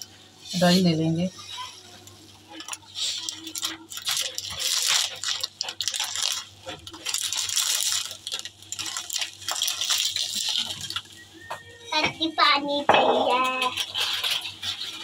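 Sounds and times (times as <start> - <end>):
kitchen items clinking and rattling: 1.4 - 15.0.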